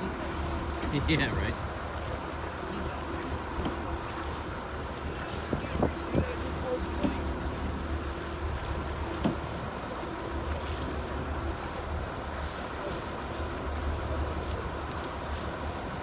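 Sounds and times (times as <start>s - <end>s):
boat engine idling: 0.0s - 16.0s
water lapping at hull: 0.0s - 16.0s.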